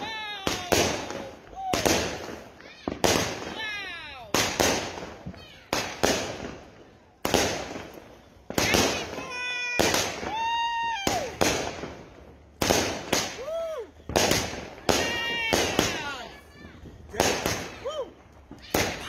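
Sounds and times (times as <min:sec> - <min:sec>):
fireworks bangs with crackle: 0:00.0 - 0:19.0.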